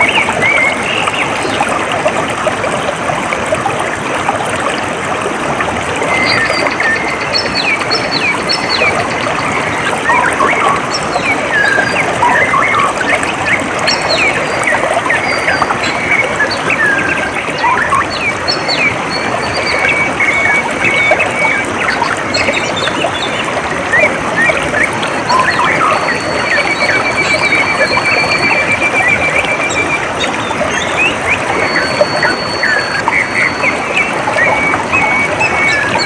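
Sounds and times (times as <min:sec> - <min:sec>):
water trickling: 0:00.0 - 0:36.0.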